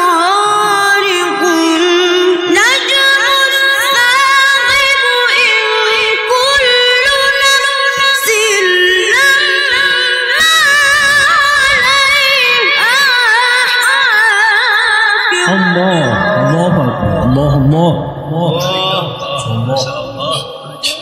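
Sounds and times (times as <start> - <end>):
man reciting in high voice: 0.0 - 21.0.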